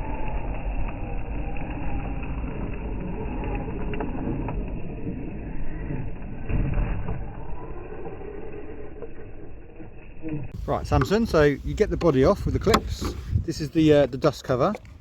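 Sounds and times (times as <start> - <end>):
rc car tyres rumbling: 0.0 - 15.0.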